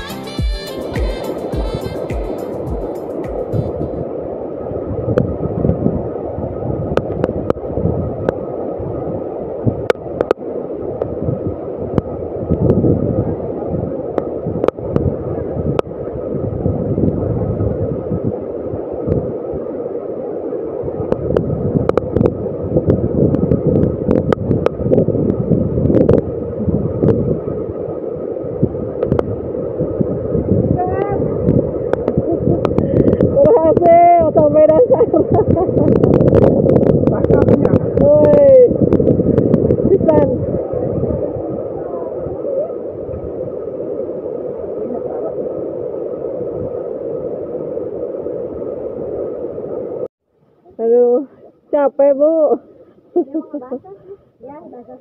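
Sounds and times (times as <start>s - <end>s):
wind buffeting microphone: 0.8s - 50.1s.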